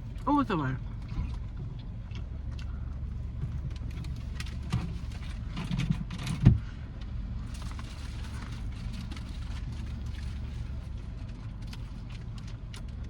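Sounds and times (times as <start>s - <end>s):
car interior engine hum: 0.0s - 13.0s
small clicks and rustles: 0.9s - 13.0s.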